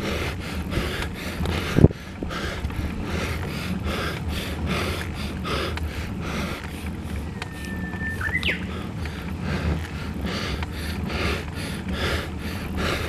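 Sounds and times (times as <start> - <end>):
hard rhythmic breathing: 0.0 - 7.8, 8.6 - 13.0
wind rumble on microphone: 0.0 - 13.0.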